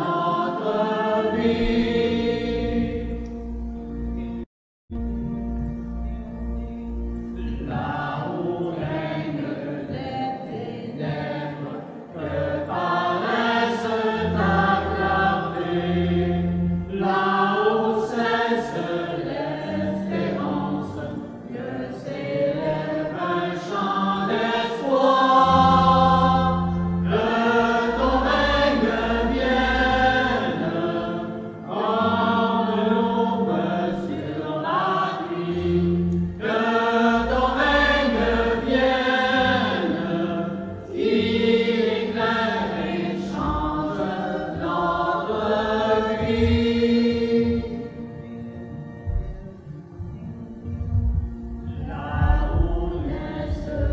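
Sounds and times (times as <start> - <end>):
voices singing a hymn: 0.0 - 4.2, 7.2 - 53.9
low sustained accompaniment: 5.0 - 53.9.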